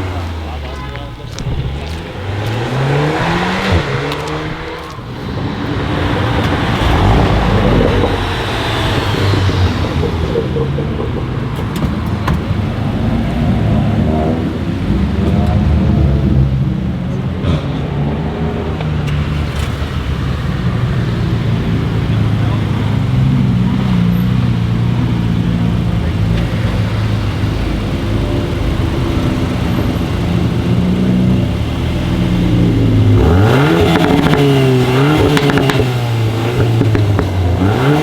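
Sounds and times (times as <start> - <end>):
car engine accelerating hard: 0.0 - 38.0
exhaust cracks: 0.0 - 38.0.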